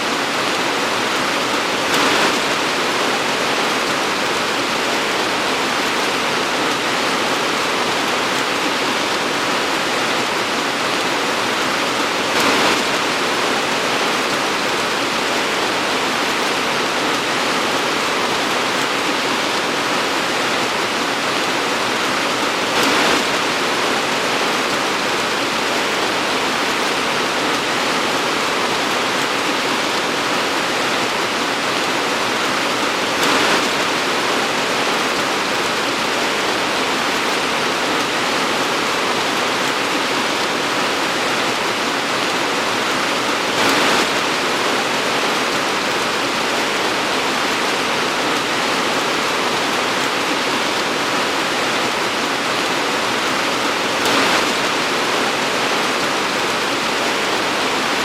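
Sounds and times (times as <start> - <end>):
torrential rain pouring: 0.0 - 58.0.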